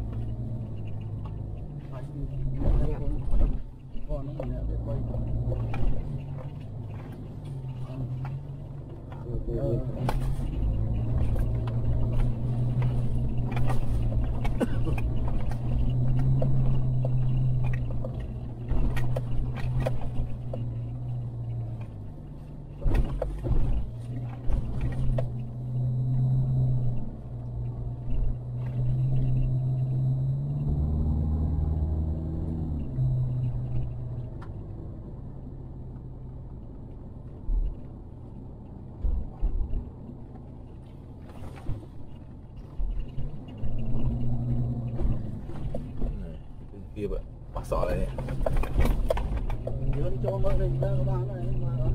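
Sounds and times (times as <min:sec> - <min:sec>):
body and suspension rattling: 0:00.0 - 0:34.8, 0:36.0 - 0:51.9
car engine drone in cabin: 0:00.0 - 0:51.9.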